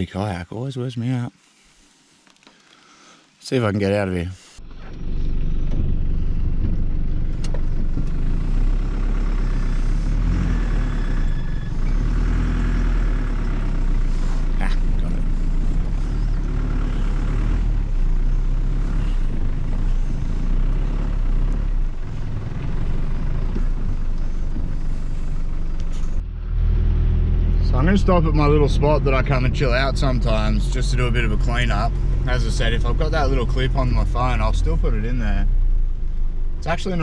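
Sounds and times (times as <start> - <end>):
engine low rumble: 3.5 - 37.0.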